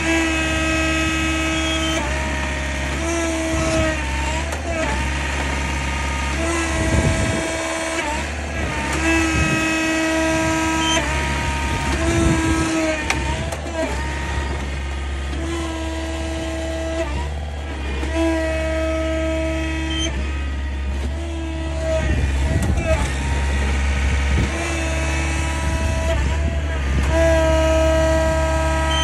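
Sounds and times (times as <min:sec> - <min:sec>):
machine engine drone: 0:00.0 - 0:29.0
pitched machine whine: 0:00.0 - 0:29.0.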